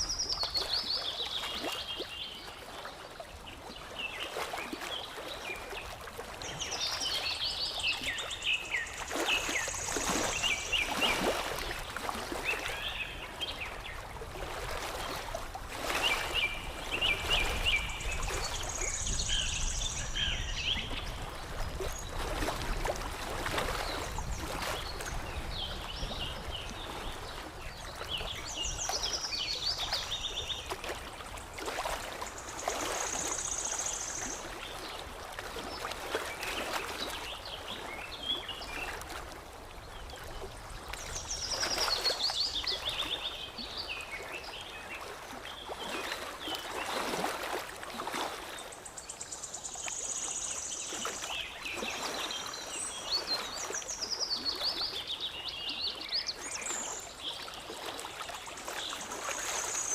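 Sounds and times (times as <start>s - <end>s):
water lapping and trickling: 0.0s - 59.9s.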